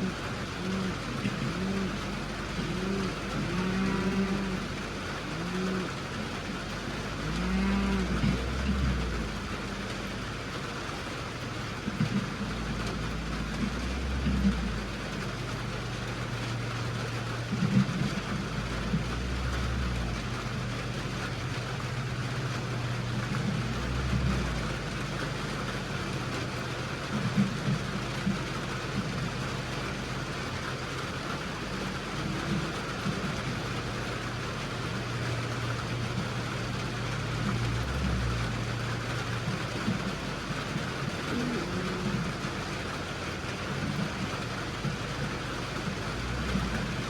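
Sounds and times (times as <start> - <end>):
rain hissing: 0.0 - 47.0
vehicle engine running: 0.0 - 47.0.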